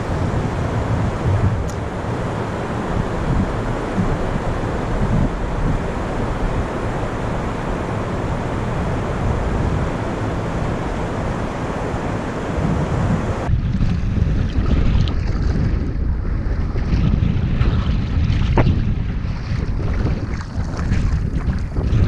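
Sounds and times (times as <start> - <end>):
gusting wind buffeting microphone: 0.0 - 22.0.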